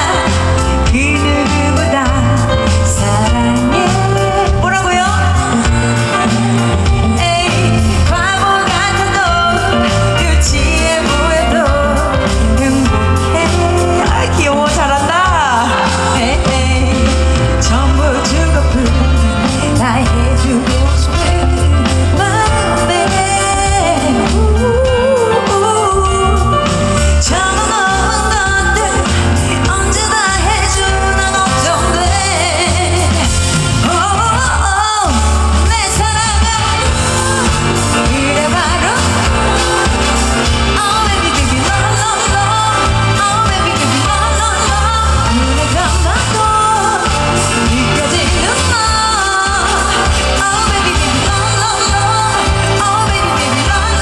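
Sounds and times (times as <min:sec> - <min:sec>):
amplified pop accompaniment: 0:00.0 - 0:54.0
woman singing into microphone: 0:00.0 - 0:54.0.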